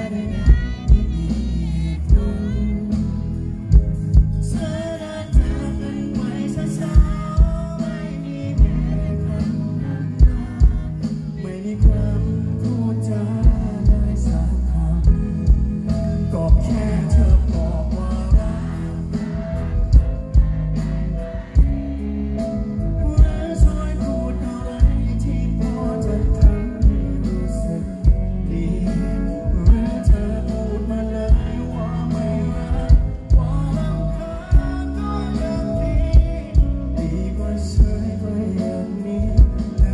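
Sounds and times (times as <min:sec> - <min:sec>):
bass notes: 0:00.0 - 0:39.9
man singing into a microphone: 0:00.0 - 0:39.9.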